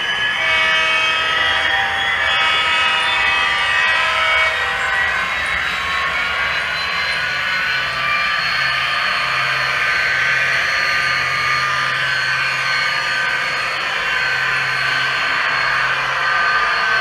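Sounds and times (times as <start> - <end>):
model train whine: 0.0 - 17.0.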